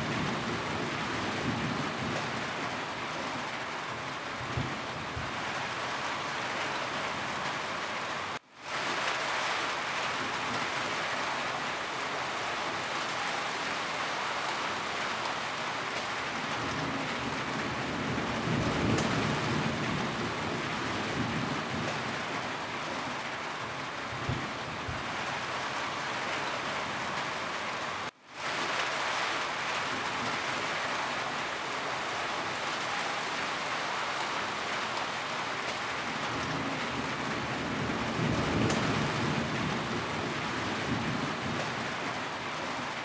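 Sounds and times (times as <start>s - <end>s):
rain on a roof: 0.0s - 43.0s.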